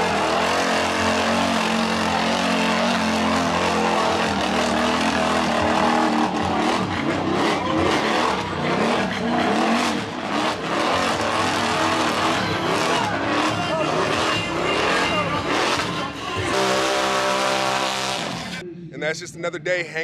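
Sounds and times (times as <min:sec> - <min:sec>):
atv engine revving: 0:00.0 - 0:18.6.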